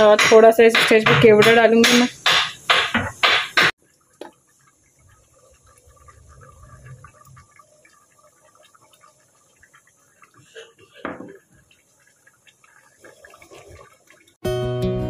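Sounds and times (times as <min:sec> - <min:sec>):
pot simmering with bubbling pops: 0:00.0 - 0:14.4.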